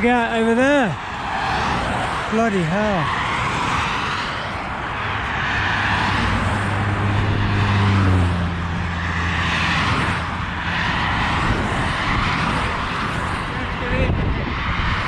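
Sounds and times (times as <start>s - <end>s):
low engine drone: 0.0s - 15.0s
road traffic passing: 0.0s - 15.0s.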